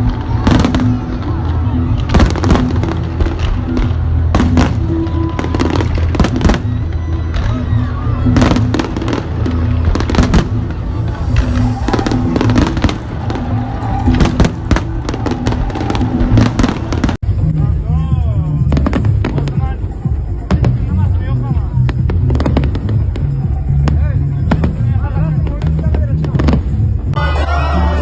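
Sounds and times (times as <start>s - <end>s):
fireworks bangs and crackles: 0.0s - 27.2s
music playing: 0.0s - 28.0s.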